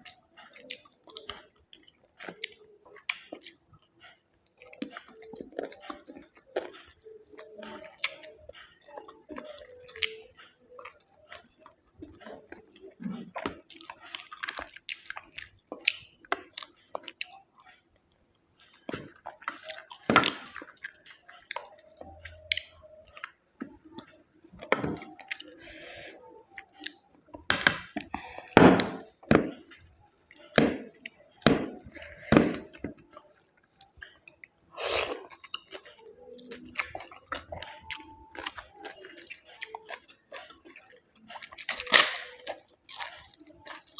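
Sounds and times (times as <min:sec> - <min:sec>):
wet chewing and mouth smacks: 0:00.0 - 0:43.9.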